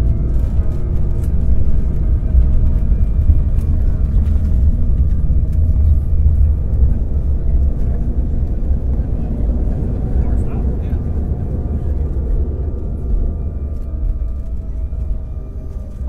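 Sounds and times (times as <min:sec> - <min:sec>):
airplane cabin low rumble: 0:00.0 - 0:16.0.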